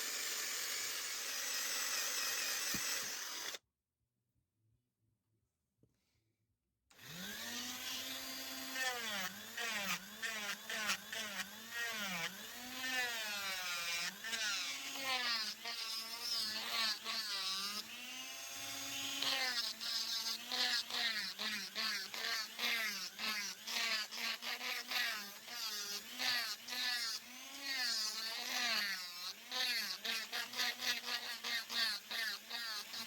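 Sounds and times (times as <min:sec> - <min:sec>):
power tool motor whine: 0:00.0 - 0:03.6, 0:06.9 - 0:33.0
tool grinding against wood: 0:00.0 - 0:03.6, 0:07.0 - 0:33.0.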